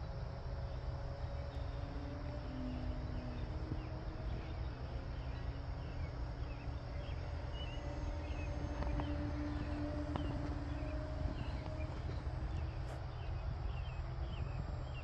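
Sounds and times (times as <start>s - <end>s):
distant model plane motor drone: 0.0s - 15.0s
wind rumble on microphone: 0.0s - 15.0s
small birds chirping: 0.3s - 15.0s.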